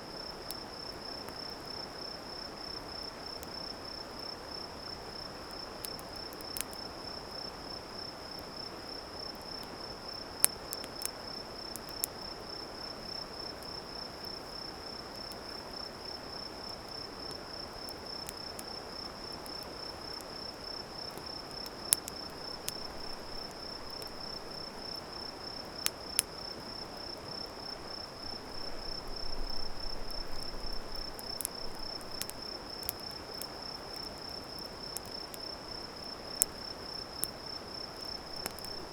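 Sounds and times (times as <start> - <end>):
steady low hiss: 0.0 - 38.9
campfire crackling: 0.1 - 38.9
insects trilling: 0.2 - 38.9.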